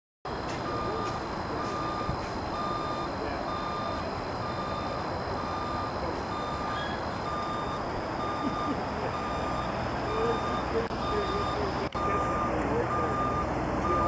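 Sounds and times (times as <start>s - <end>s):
reversing alarm beeping: 0.3s - 14.0s.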